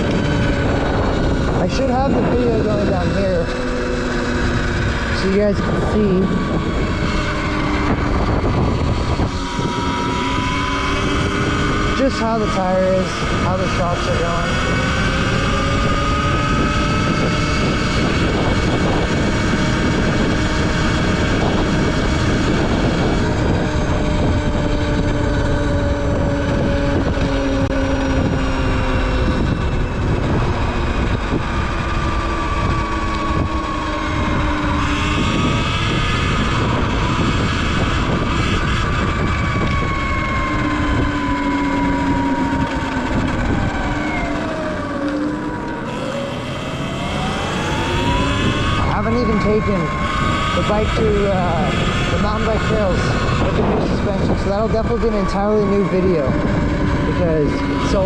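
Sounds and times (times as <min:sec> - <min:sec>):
electric motor whine: 0:00.0 - 0:58.0
wind rushing across microphone: 0:00.0 - 0:58.0.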